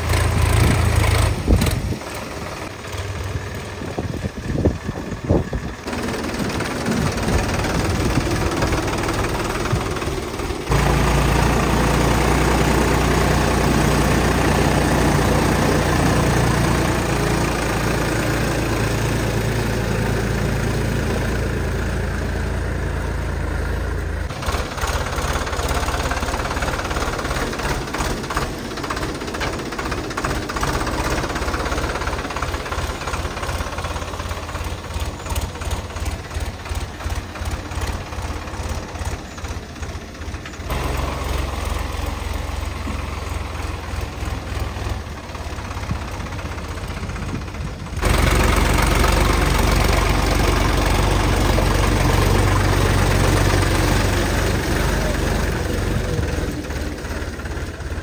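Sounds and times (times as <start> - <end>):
tractor diesel engine knocking: 0.0 - 58.0.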